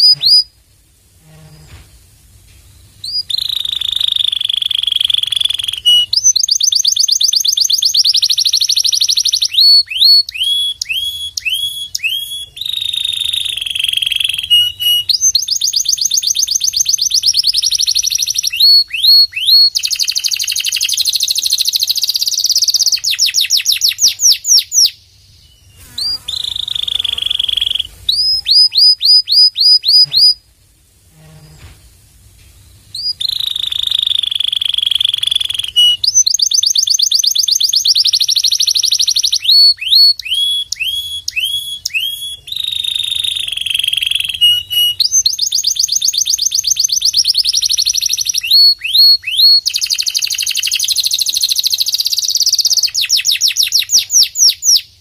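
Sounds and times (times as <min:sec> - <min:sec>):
canary singing: 0:00.0 - 0:00.6, 0:03.0 - 0:30.4, 0:32.9 - 0:54.9.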